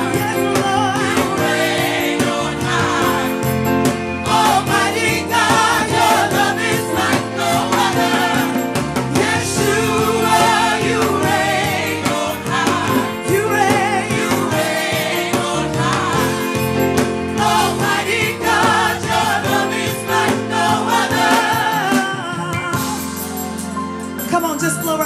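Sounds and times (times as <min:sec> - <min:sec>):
voices singing gospel: 0:00.0 - 0:24.0
sustained instrumental accompaniment: 0:00.0 - 0:25.0.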